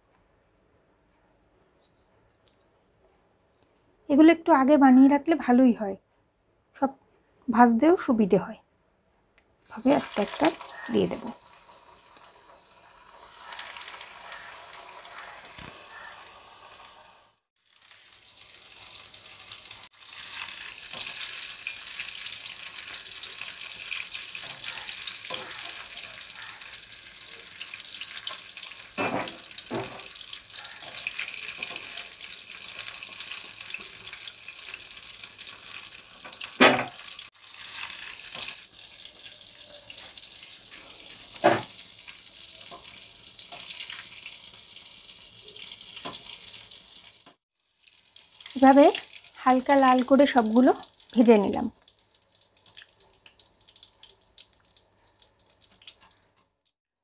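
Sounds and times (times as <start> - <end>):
oil sizzling: 9.6 - 56.8.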